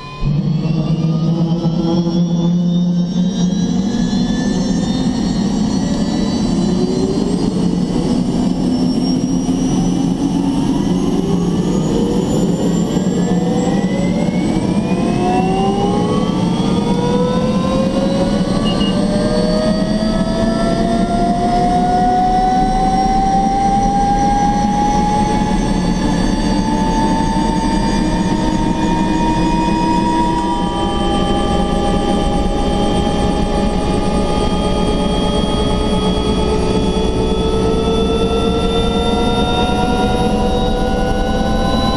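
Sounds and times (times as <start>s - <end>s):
helicopter turbine engine starting: 0.0s - 41.9s.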